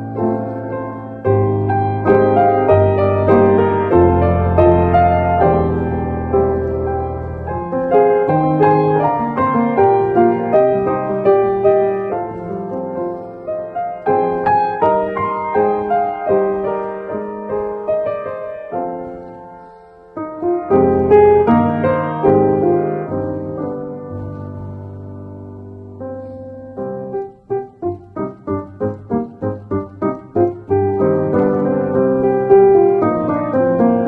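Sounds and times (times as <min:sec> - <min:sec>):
gentle solo piano tune: 0:00.0 - 0:34.0.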